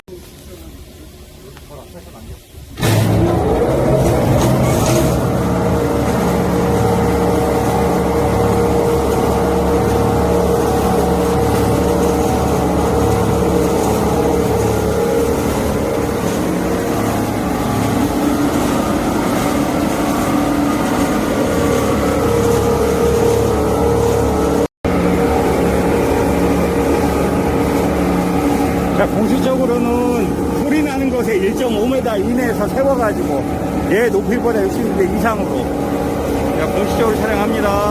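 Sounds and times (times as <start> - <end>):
machinery droning: 0.1 - 37.9.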